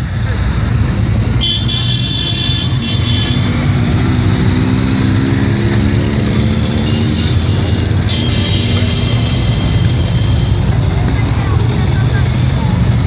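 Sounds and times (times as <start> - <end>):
motorcycle engines passing: 0.0 - 13.0.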